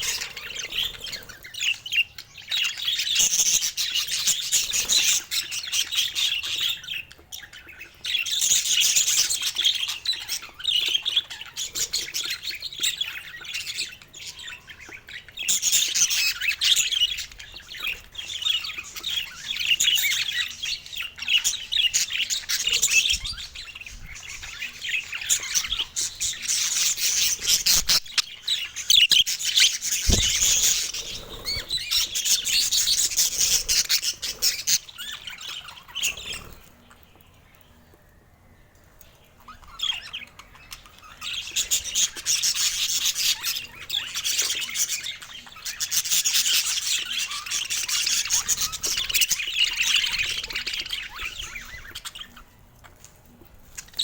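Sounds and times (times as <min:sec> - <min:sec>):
budgerigars chirping and squawking: 0:00.0 - 0:38.1, 0:38.7 - 0:54.0.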